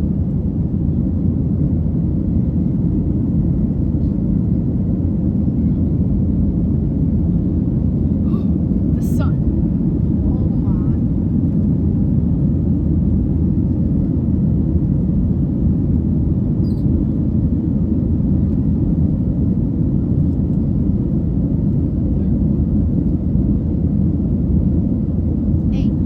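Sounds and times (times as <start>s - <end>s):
airplane cabin rumble: 0.0s - 26.0s.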